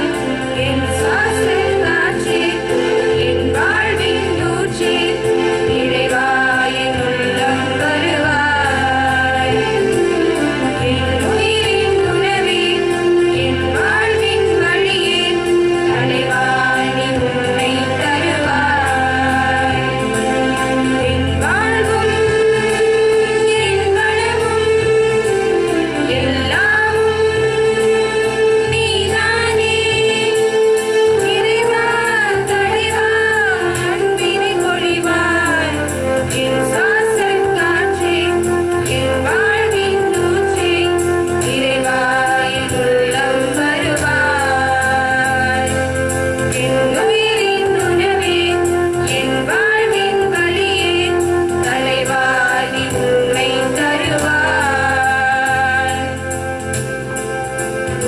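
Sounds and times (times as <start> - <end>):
women singing together: 0.0 - 56.8.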